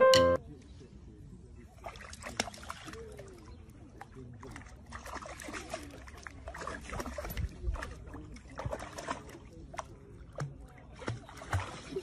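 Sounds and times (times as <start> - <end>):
dog splashing in water: 1.8 - 12.0.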